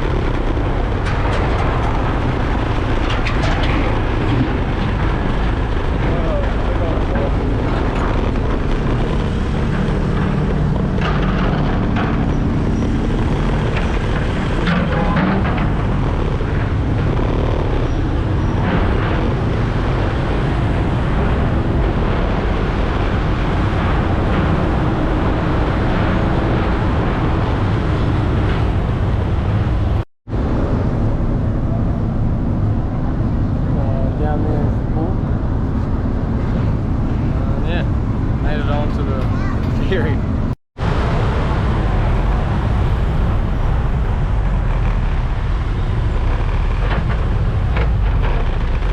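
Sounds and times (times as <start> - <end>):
motor vehicle traffic noise: 0.0 - 48.9.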